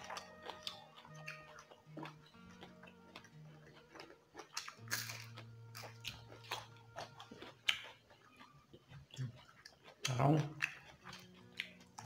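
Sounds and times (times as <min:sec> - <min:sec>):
chewing and crunching vegetables: 0:00.0 - 0:12.0.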